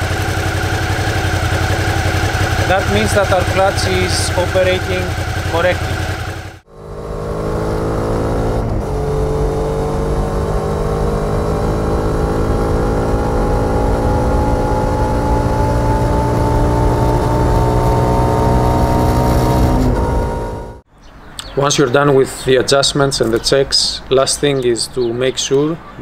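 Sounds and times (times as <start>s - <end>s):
motorcycle engine accelerating: 0.0s - 20.8s.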